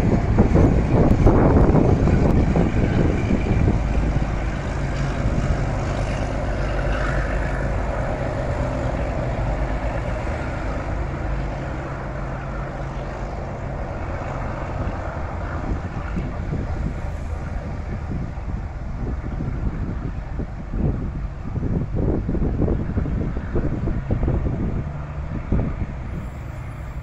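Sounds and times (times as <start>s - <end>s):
diesel locomotive engine droning: 0.0s - 27.0s
train wheels rumbling on rails: 0.0s - 27.0s.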